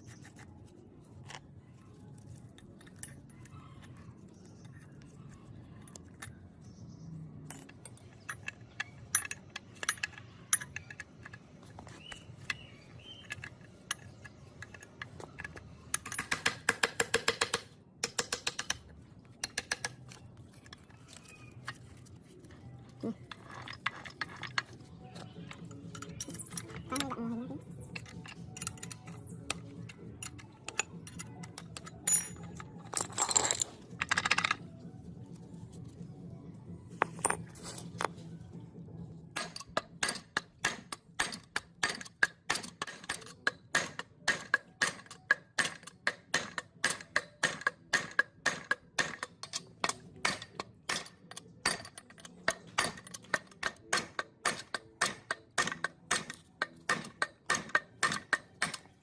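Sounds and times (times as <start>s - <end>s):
metal tools clinking: 7.4s - 17.3s, 18.0s - 34.7s, 37.0s - 38.2s, 39.4s - 59.0s.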